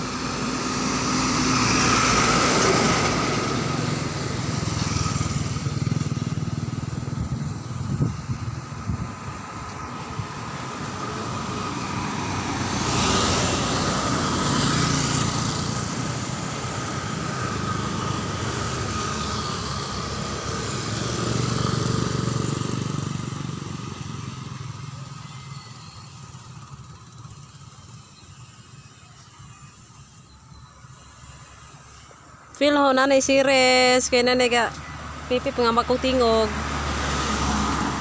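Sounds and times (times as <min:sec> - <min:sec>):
vehicle passing: 0:00.0 - 0:28.7, 0:30.9 - 0:38.0
motor scooter passing: 0:00.0 - 0:32.4, 0:33.0 - 0:38.0.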